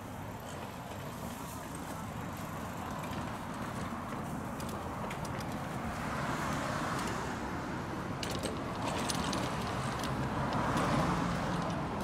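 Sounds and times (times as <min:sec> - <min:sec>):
cart wheels rumbling on paving: 0:00.0 - 0:12.0
passing street traffic: 0:00.0 - 0:12.0.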